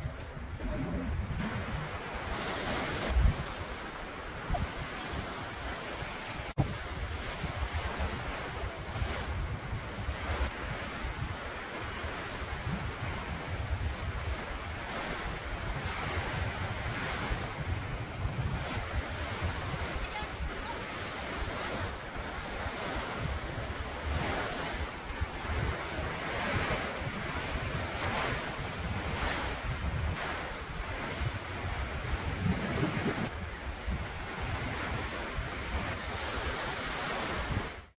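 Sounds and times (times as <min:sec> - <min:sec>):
wind buffeting microphone: 0:00.0 - 0:37.8
small waves washing on shore: 0:00.0 - 0:38.0.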